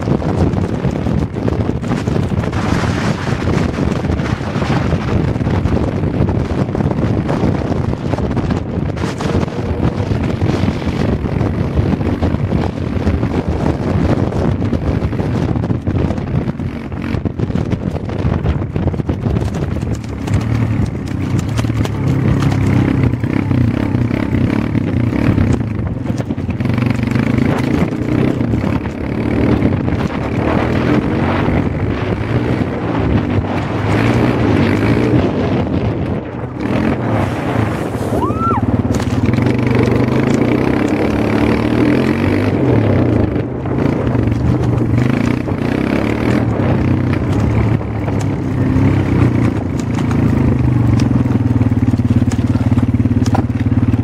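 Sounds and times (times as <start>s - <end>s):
motorcycle engine: 0.0s - 54.0s
wind buffeting microphone: 0.0s - 54.0s.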